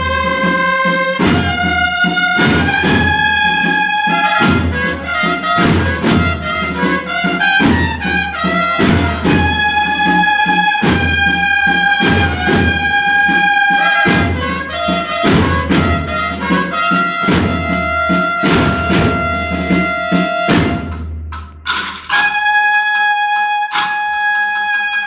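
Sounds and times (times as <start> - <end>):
bugles holding long notes: 0.0 - 21.0, 21.7 - 25.0
drum strokes: 0.0 - 25.0.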